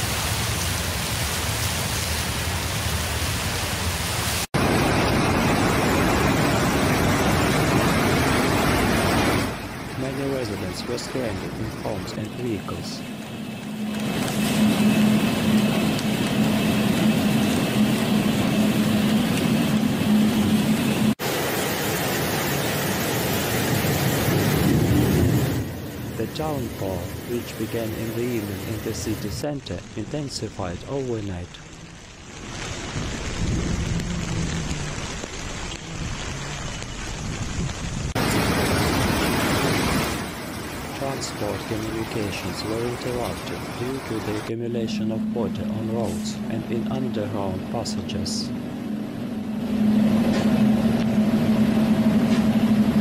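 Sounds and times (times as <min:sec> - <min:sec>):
heavy rain and floodwater rushing: 0:00.0 - 0:53.0
low engine hum: 0:00.1 - 0:29.4, 0:32.8 - 0:53.0.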